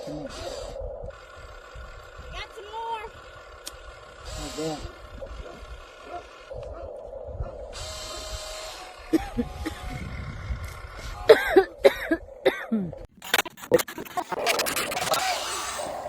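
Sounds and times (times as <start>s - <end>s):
toy electric motor whining: 0.0s - 6.6s, 7.6s - 11.1s, 13.2s - 16.0s.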